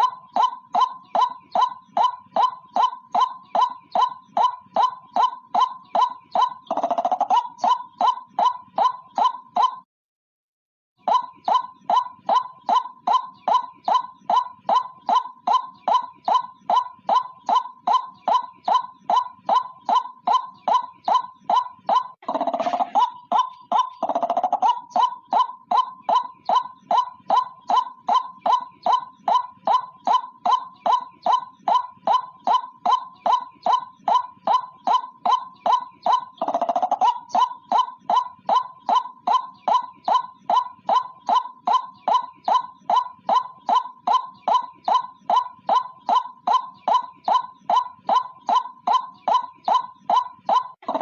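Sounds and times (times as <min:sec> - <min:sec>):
harsh bird calls: 0:00.0 - 0:09.8, 0:11.0 - 0:51.0.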